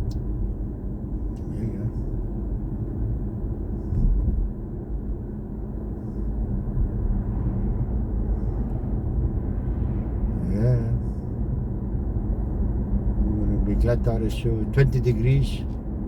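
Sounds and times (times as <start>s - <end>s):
road and tyre rumble in car: 0.0s - 16.0s.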